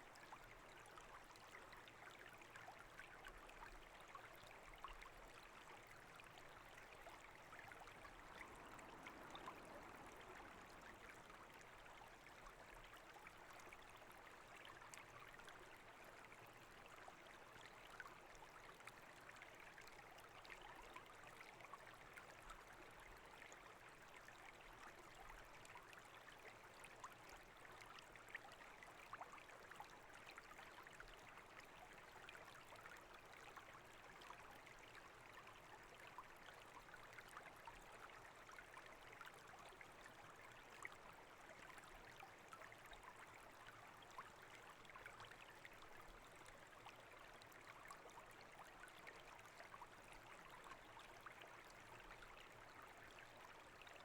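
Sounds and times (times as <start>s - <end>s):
faint brook trickling: 0.0s - 54.0s.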